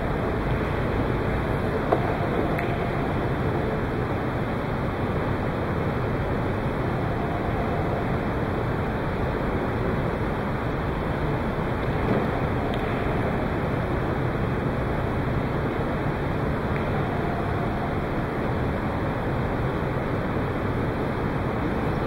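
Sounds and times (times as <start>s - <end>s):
rushing room noise: 0.0s - 22.0s.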